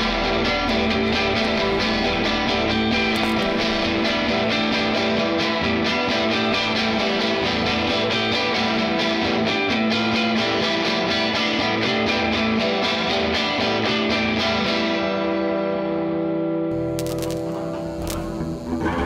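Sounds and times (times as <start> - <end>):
band music with strummed guitar: 0.0 - 15.9.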